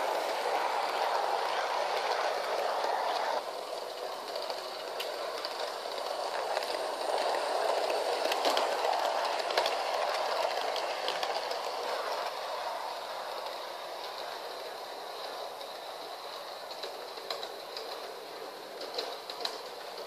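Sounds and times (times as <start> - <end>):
model train motor whirr: 0.0 - 20.0.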